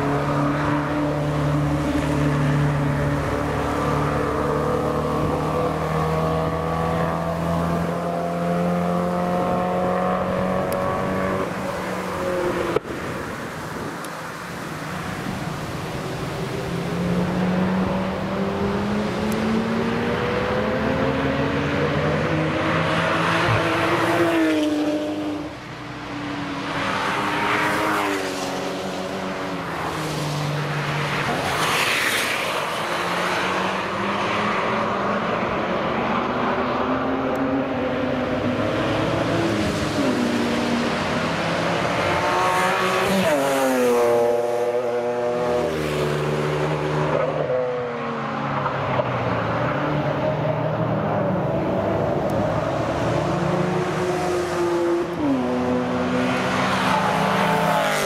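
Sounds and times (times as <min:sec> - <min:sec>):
sports cars driving past at speed: 0:00.0 - 0:58.0.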